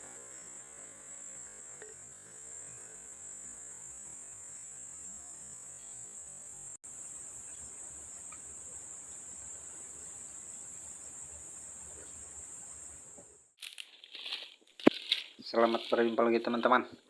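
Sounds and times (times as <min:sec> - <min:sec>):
insects chirping chorus: 0:00.0 - 0:17.0.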